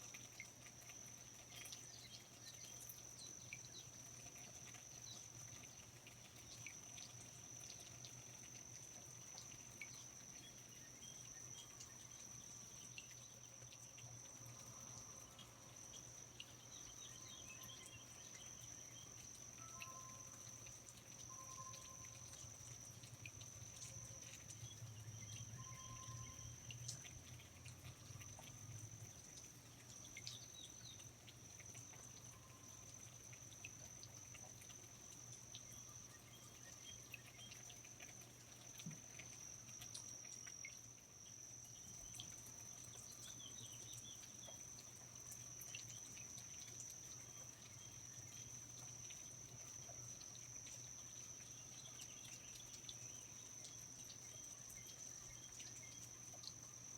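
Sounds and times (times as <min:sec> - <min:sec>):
high-pitched insect trill: 0:00.0 - 0:56.9
small chirps: 0:00.0 - 0:56.9
water drips: 0:00.0 - 0:56.9.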